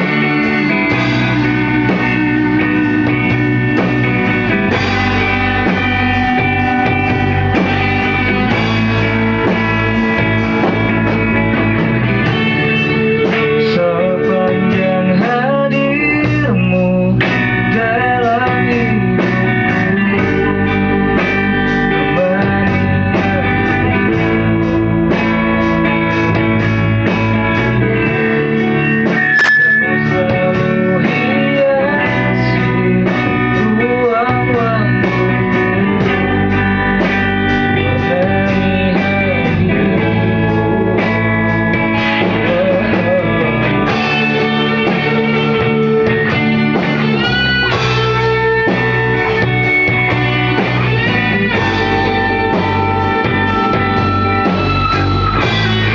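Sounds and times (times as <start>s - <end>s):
band playing live: 0.0s - 55.9s
guitar with bent notes: 0.0s - 55.9s.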